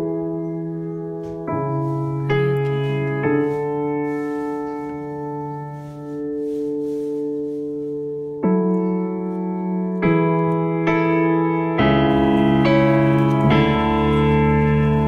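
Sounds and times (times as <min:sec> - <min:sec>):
slow held keyboard chords: 0:00.0 - 0:15.0.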